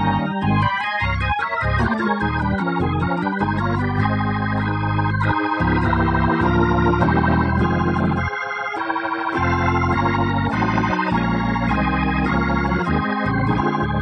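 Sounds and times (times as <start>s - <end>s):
bass line: 0.0s - 14.0s
organ chords: 0.0s - 14.0s.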